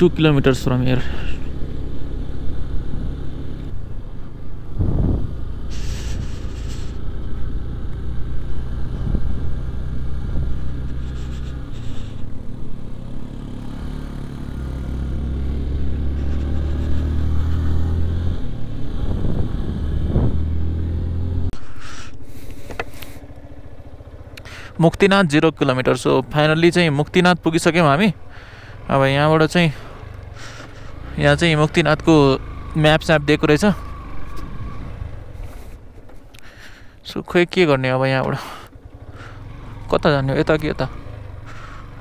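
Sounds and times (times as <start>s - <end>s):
motorcycle engine drone: 0.0s - 42.0s.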